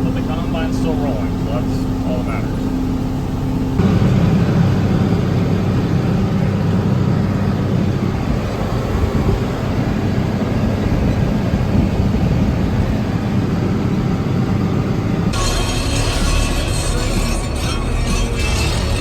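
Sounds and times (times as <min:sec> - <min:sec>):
diesel engine droning under load: 0:00.0 - 0:19.0.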